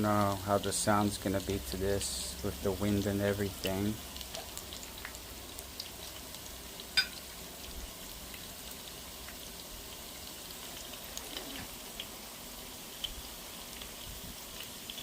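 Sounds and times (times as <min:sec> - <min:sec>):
food sizzling in hot oil: 0:00.0 - 0:15.0
oil crackles and pops: 0:00.0 - 0:15.0.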